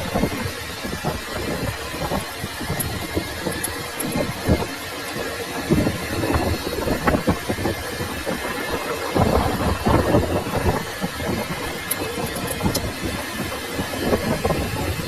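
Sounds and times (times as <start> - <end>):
metalworking machine running: 0.0 - 15.0.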